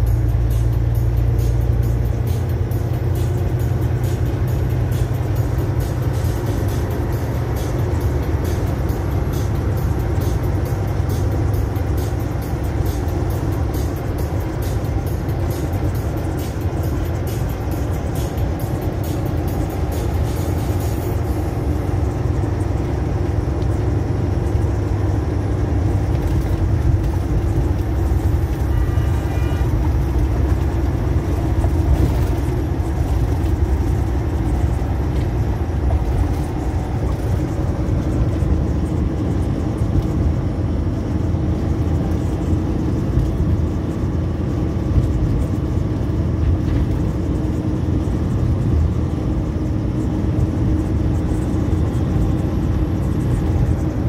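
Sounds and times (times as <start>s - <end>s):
truck engine drone: 0.0s - 54.0s
tyre and road noise: 0.0s - 54.0s.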